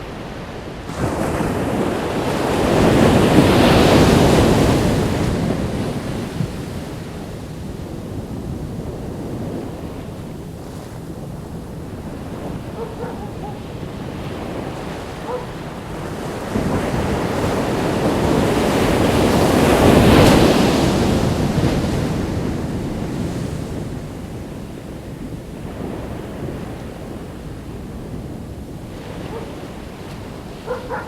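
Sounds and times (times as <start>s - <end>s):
ocean wave breaking: 0.0s - 7.6s, 8.3s - 24.4s, 28.5s - 31.0s
wind on microphone: 0.0s - 31.0s.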